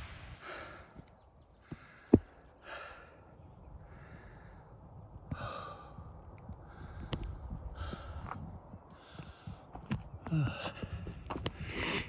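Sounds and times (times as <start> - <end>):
person breathing hard: 0.0 - 1.0, 1.6 - 12.0.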